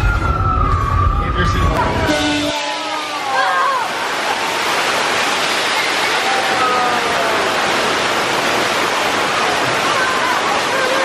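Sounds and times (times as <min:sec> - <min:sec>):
torrent of water splashing: 0:01.3 - 0:11.0.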